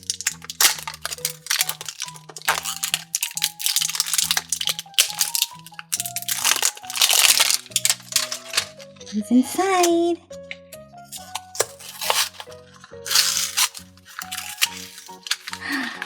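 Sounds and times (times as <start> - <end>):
plastic packaging crumpling and tearing: 0.0 - 9.1, 11.1 - 16.0
background music: 0.0 - 16.0.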